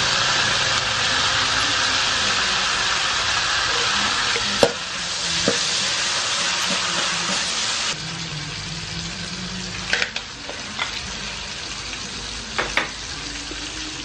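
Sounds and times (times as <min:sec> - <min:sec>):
garlic sizzling in hot oil: 0:00.0 - 0:14.0.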